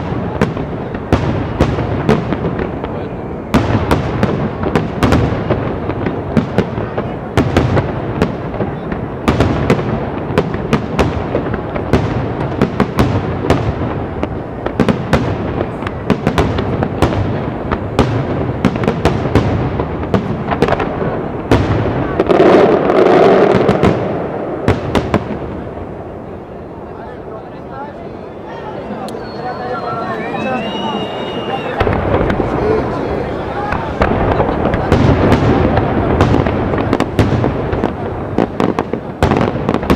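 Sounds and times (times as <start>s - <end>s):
fireworks rumble and crackle: 0.0s - 39.9s.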